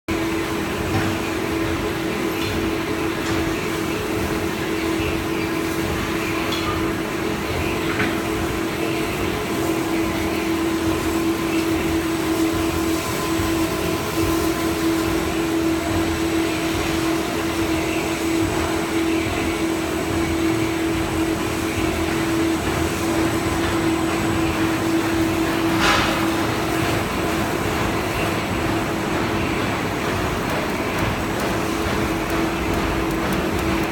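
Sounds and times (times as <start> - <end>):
machine humming: 0.1 - 33.9.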